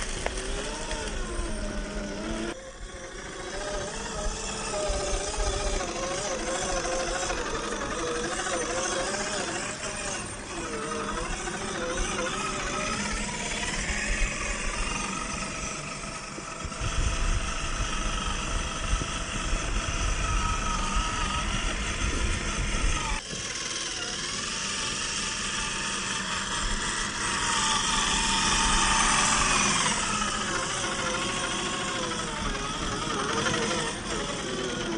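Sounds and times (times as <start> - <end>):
electric motor and gear whine: 0.0 - 34.9.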